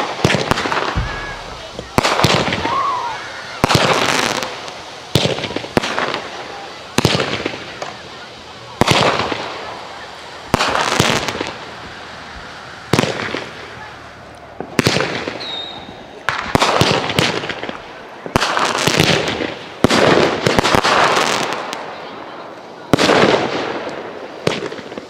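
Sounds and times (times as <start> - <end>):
firework shells bursting: 0.0 - 21.6
firework crackling: 0.0 - 25.0.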